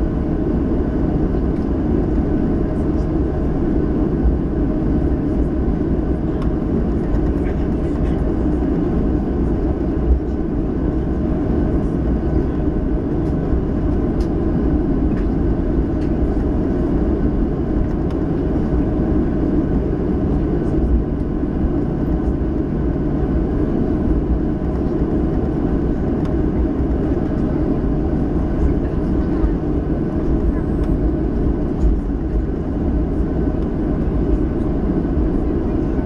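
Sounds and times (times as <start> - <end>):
aircraft cabin engine rumble: 0.0 - 36.0.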